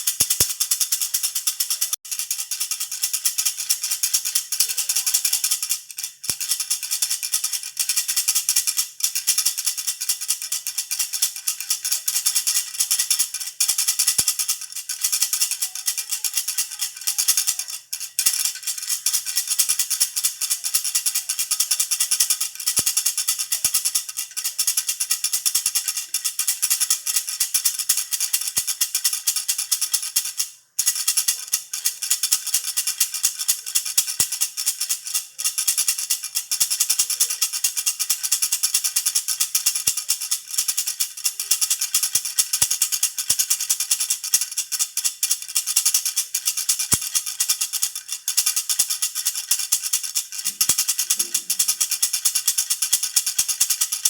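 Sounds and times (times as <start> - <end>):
baby rattle shaken: 0.0 - 54.0.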